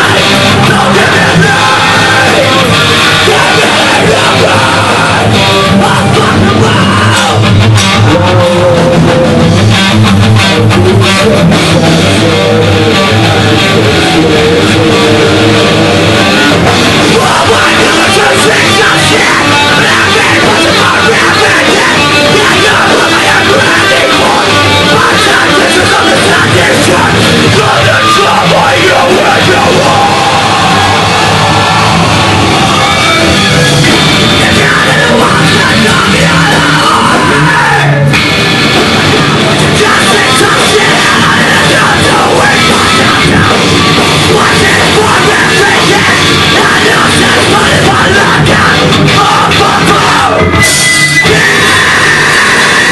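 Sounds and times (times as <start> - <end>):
heavy rock band playing live: 0.0 - 52.9.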